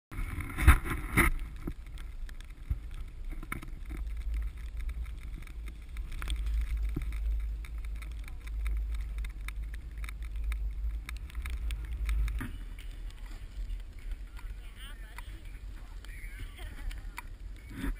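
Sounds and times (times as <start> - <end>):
wind buffeting microphone: 0.1 - 17.9
small clicks and knocks: 0.2 - 17.9.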